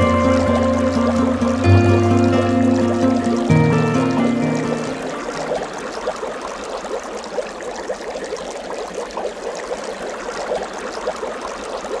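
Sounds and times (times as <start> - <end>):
water bubbling and trickling: 0.0 - 12.0.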